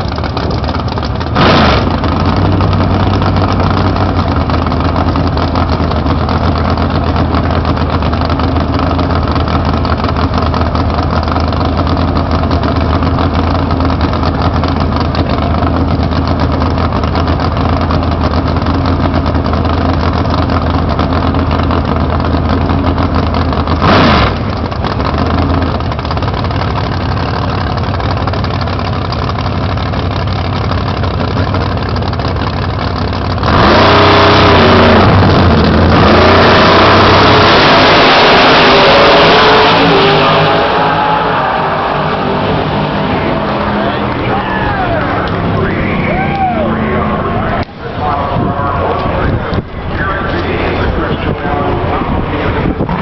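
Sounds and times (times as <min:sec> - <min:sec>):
car engine idling: 0:00.0 - 0:37.4, 0:38.2 - 0:53.0.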